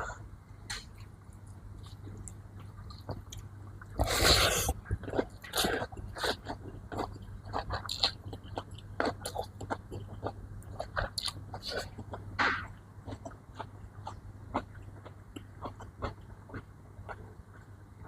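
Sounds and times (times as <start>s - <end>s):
low steady hum: 0.0s - 18.0s
chewing and biting: 1.0s - 12.3s, 13.0s - 18.0s.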